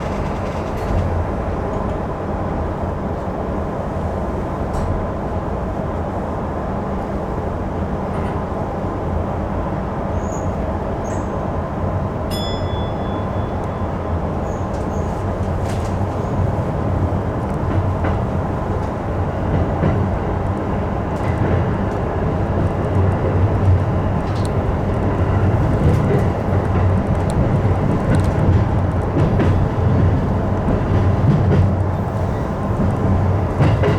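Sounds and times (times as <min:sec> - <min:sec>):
electric train rumbling: 0:00.0 - 0:33.9.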